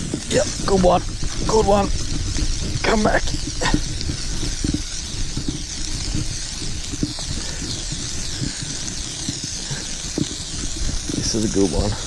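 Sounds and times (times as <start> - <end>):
steady high hiss: 0.0 - 12.0
wind rumbling on microphone: 0.0 - 12.0.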